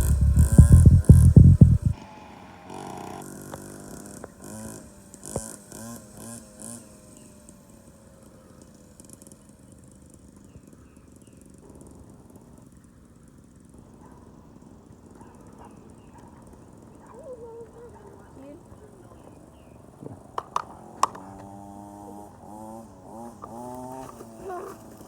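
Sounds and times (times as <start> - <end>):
small motorcycle engine revving: 0.0 - 25.0.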